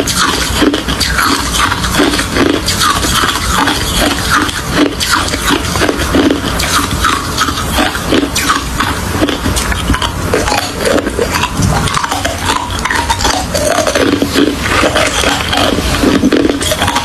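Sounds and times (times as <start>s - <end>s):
chewing crushed ice: 0.0s - 17.0s.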